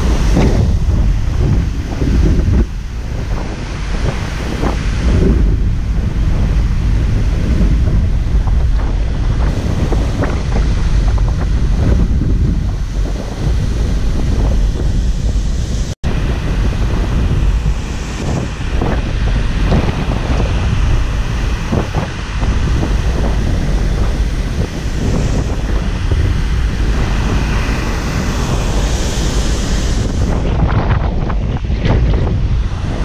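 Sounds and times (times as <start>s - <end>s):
breaking surf: 0.0s - 33.0s
wind buffeting the microphone: 0.0s - 33.0s.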